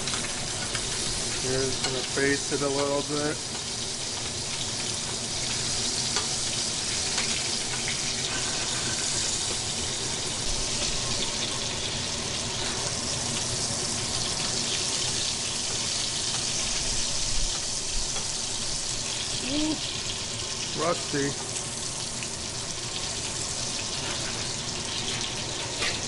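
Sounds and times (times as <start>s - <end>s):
butter and oil sizzling in a pan: 0.0s - 26.0s.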